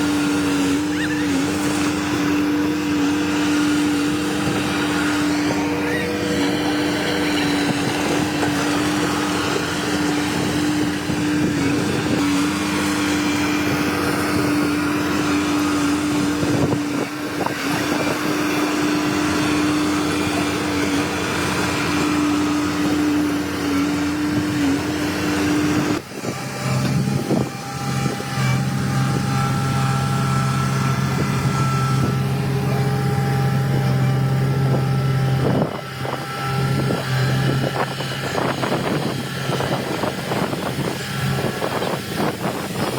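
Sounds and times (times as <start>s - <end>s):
bulldozer diesel engines droning: 0.0s - 42.9s.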